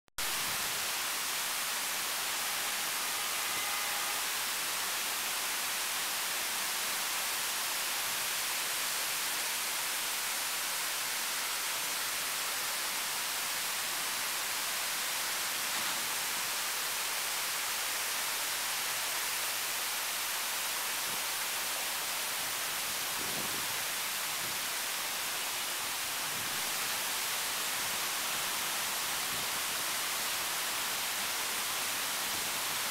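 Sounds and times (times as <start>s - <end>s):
fountain water falling: 0.2s - 32.9s.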